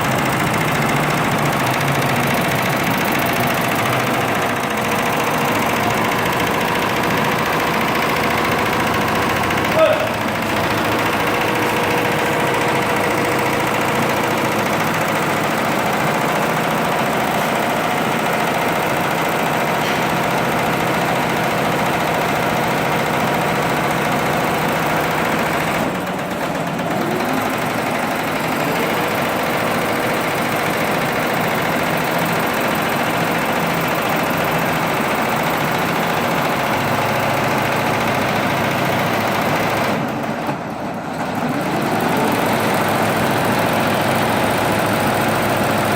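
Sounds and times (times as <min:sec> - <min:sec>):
embroidery machine stitching: 0:00.0 - 0:45.9.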